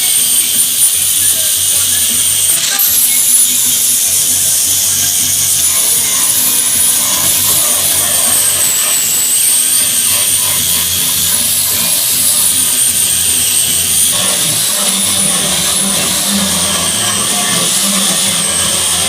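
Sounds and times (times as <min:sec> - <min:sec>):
high-speed power tool whining: 0:00.0 - 0:19.0.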